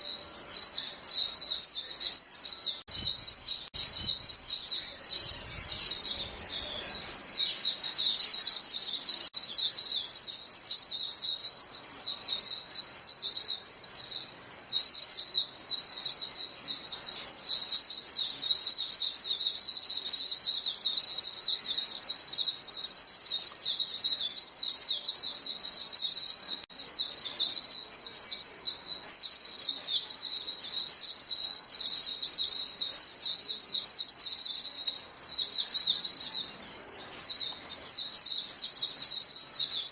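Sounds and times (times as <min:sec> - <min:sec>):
flock of birds chirping rapidly: 0:00.0 - 0:39.9.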